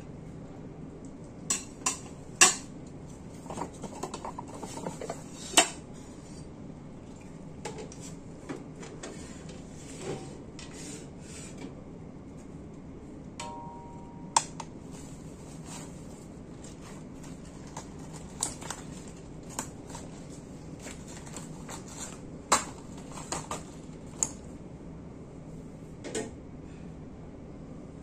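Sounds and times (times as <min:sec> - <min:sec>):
gas stove low hum: 0:00.0 - 0:28.0.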